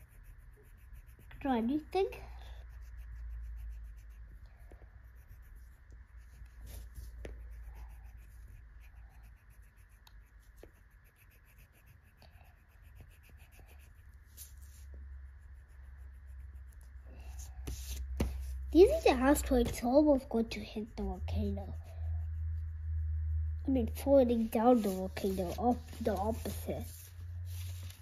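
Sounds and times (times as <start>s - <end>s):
marker scratching on paper: 0.0s - 28.0s.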